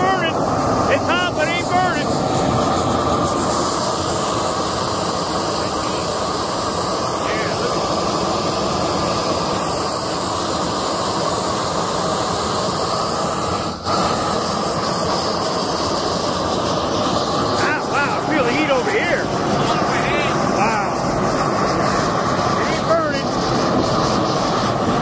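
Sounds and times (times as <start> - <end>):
propane torch rushing: 0.0 - 25.0.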